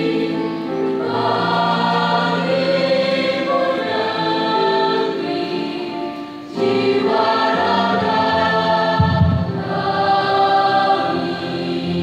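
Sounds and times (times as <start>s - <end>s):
choir singing in harmony: 0.0s - 12.0s.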